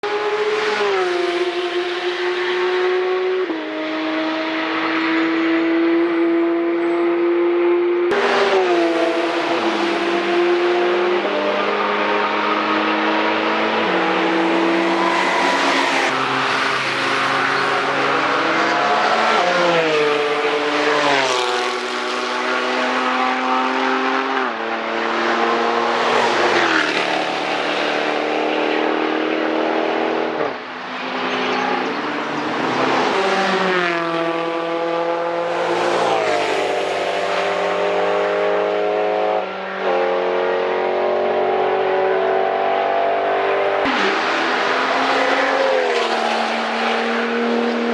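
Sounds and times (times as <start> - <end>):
fast cars passing: 0.0 - 47.9.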